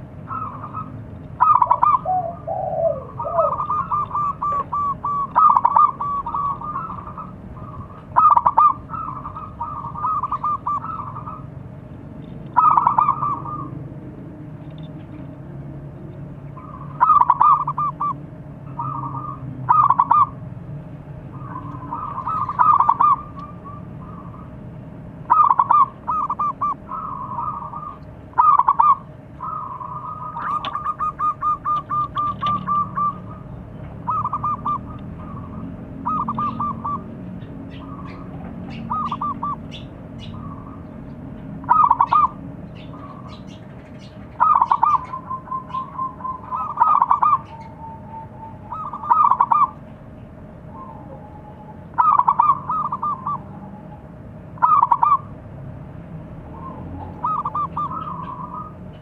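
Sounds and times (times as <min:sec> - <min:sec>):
dove cooing: 0:00.0 - 0:11.7, 0:12.4 - 0:20.4, 0:21.1 - 0:55.4, 0:56.4 - 0:59.0.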